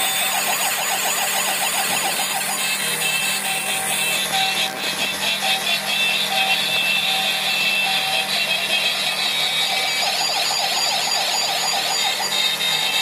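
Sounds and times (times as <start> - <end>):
toy short beeps: 0.0 - 13.0
toy warbling siren: 0.0 - 13.0.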